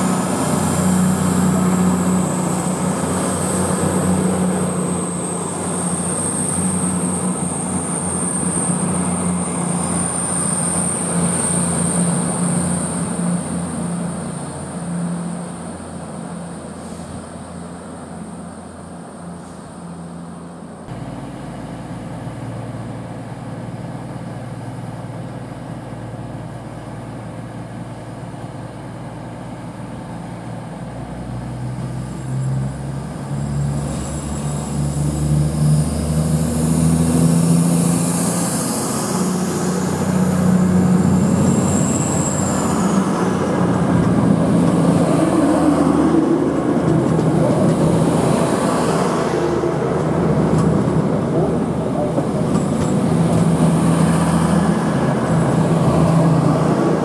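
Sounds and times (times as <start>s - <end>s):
diesel train engines revving: 0.0s - 57.0s.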